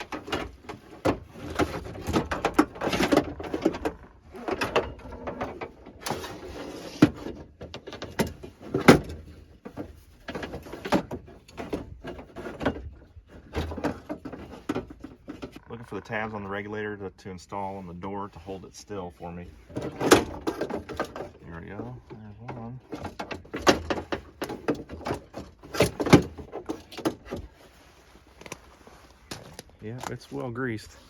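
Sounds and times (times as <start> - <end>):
metallic clanks and rattles: 0.0 - 15.7, 19.3 - 31.0.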